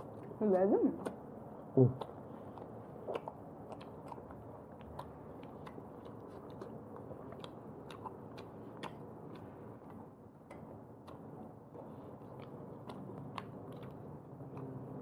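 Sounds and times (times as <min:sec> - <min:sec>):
person chewing food: 0:01.0 - 0:15.0.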